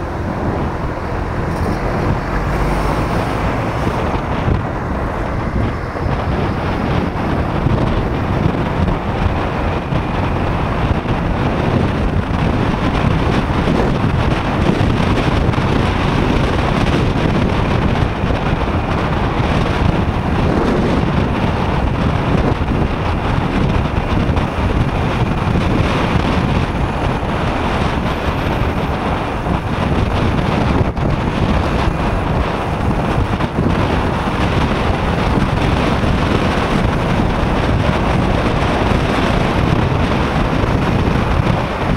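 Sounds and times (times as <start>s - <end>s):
road noise: 0.0s - 41.9s
wind roaring over microphone: 0.0s - 41.9s.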